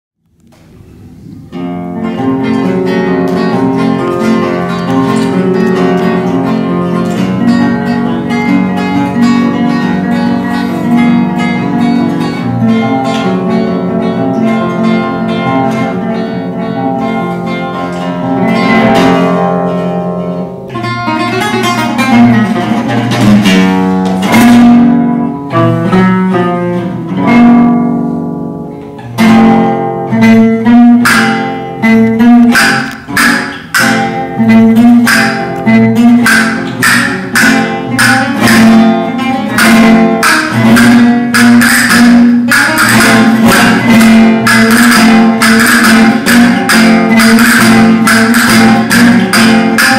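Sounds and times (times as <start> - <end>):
flamenco guitar picking melody: 0.3 - 49.9
loud strummed guitar chords: 0.9 - 49.9.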